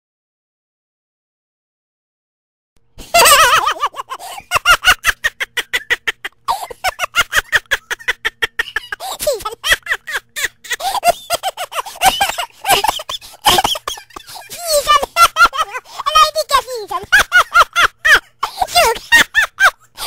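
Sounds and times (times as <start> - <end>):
high-pitched cackling laughter: 3.0 - 20.0.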